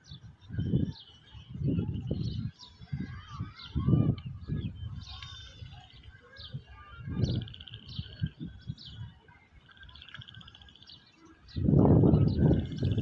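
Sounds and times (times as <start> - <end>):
small birds chirping and trilling: 0.0 - 13.0
wind gusting on microphone: 0.0 - 13.0.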